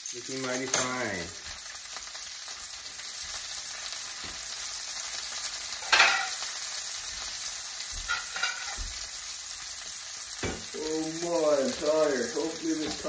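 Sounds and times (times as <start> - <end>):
steaks sizzling in a pan: 0.0 - 13.0.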